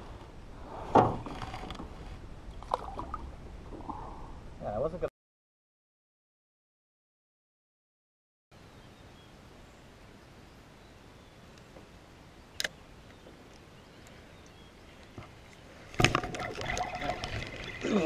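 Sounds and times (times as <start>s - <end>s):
faint outdoor background: 0.0s - 5.1s, 8.5s - 18.0s.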